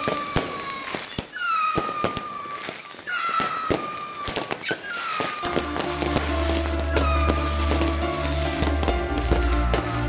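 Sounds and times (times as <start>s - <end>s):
firework bangs and crackles: 0.0s - 10.0s
firework whistles: 0.0s - 10.0s.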